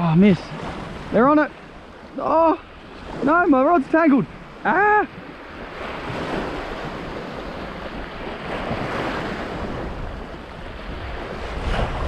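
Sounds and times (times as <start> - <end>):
small waves washing on shore: 0.0 - 12.0
wind rumbling on microphone: 0.0 - 12.0.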